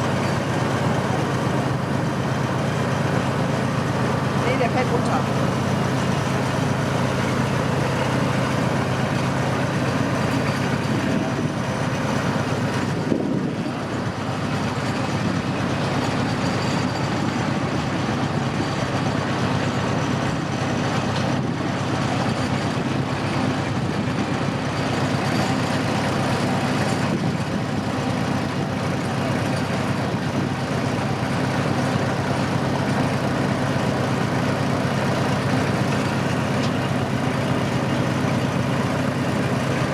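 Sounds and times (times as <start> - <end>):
train engine hum: 0.0 - 39.9
train rolling rumble: 0.0 - 39.9.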